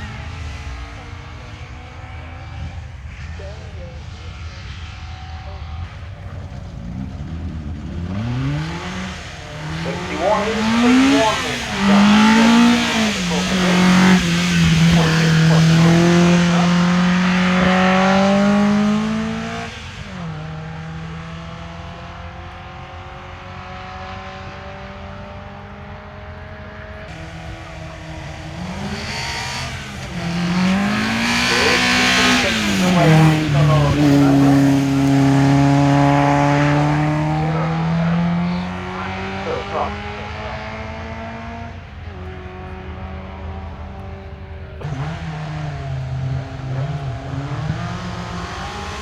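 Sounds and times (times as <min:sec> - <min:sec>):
car engine revving: 0:00.0 - 0:49.0
race car accelerating: 0:00.0 - 0:49.0.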